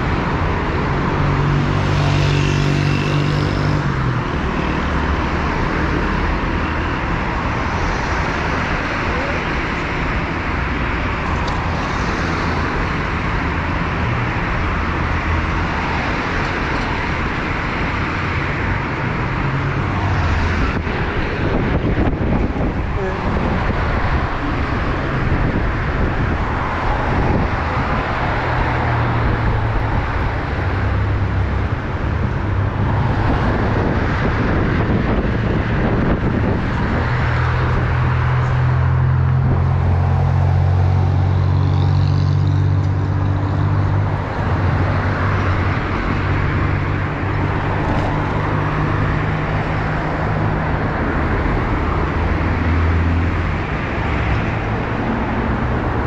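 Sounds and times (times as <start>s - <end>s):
cars passing: 0.0s - 56.0s
road and wind hiss: 0.0s - 56.0s
vehicle engine hum: 0.0s - 56.0s.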